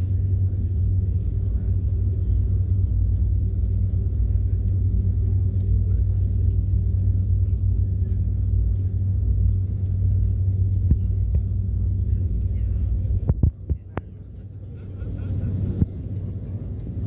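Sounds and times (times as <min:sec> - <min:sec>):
jet airliner cabin rumble: 0:00.0 - 0:17.0.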